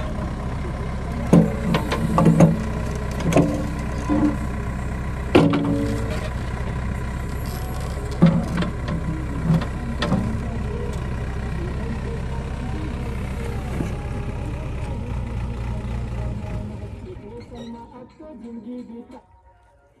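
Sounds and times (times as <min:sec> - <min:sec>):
diesel engine running: 0:00.0 - 0:19.4.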